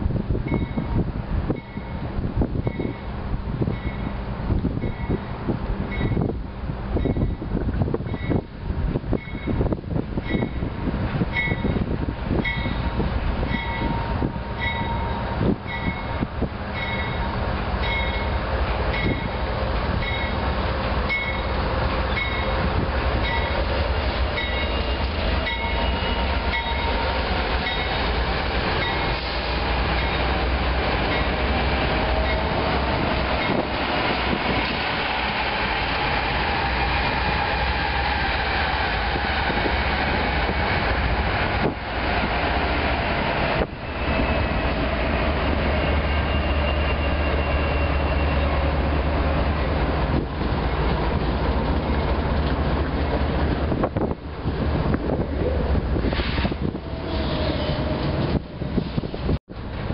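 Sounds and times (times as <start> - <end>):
diesel locomotives rumbling: 0.0 - 59.9.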